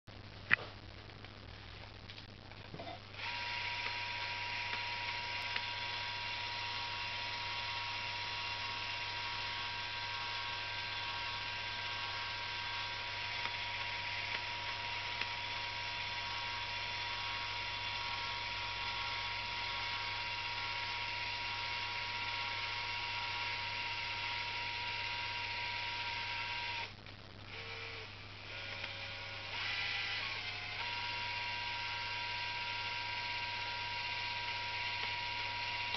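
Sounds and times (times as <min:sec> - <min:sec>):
cordless drill motor whining: 0:03.2 - 0:35.9.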